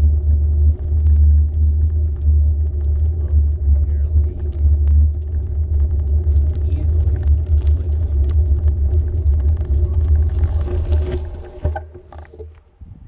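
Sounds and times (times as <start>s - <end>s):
wind buffeting microphone: 0.0s - 12.1s
bike clicks and rattles: 0.0s - 12.7s.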